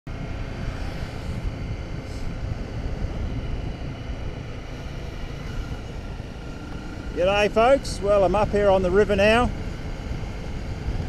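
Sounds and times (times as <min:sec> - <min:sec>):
motorcycle engine running: 0:00.1 - 0:11.0
wind noise rushing: 0:00.1 - 0:11.0.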